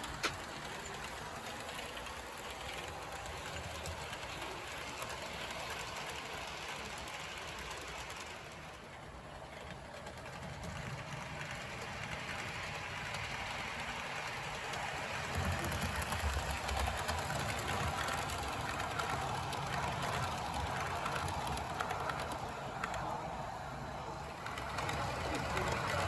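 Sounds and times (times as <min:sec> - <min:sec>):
fine rapid clicking: 0:00.0 - 0:26.0
model train motor whir: 0:00.0 - 0:26.0
rumble of train wheels: 0:00.0 - 0:26.0.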